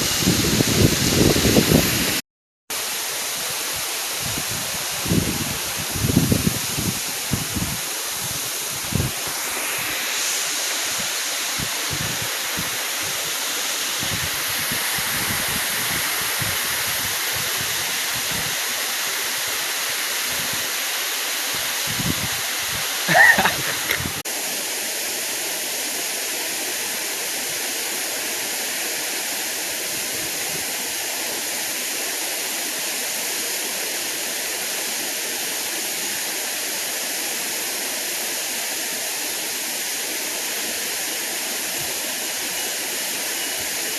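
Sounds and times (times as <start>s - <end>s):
waterfall roaring: 3.3s - 43.9s.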